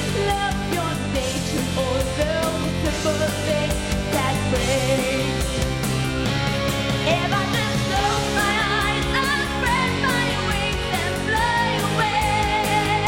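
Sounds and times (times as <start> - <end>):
pop-rock song: 0.0 - 13.0.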